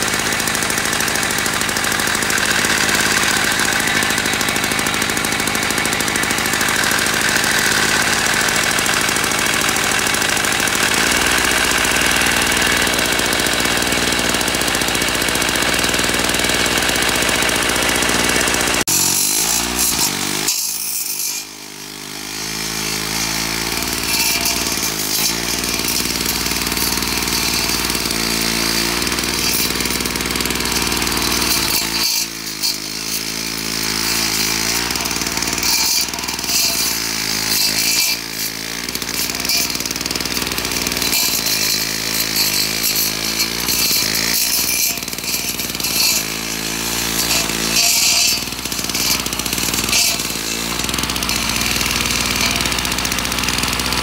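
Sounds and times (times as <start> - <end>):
lawn edger engine running: 0.0 - 54.0.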